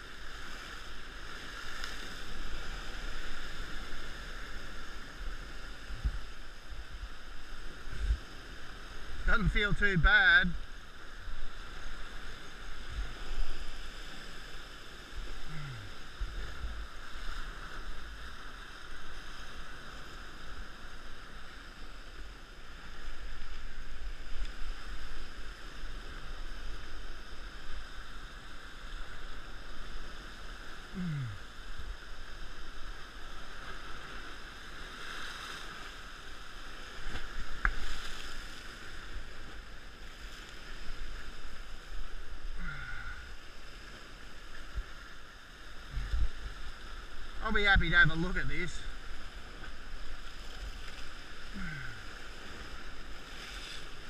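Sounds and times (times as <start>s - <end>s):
ocean surf washing on rocks: 0.0s - 54.0s.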